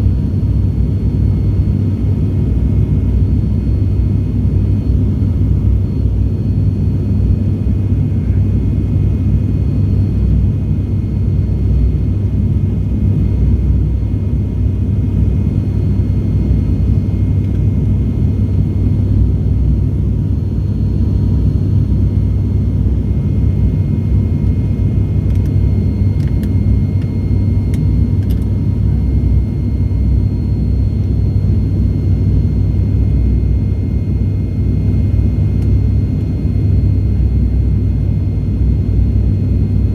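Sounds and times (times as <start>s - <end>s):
turboprop cabin rumble: 0.0s - 39.9s.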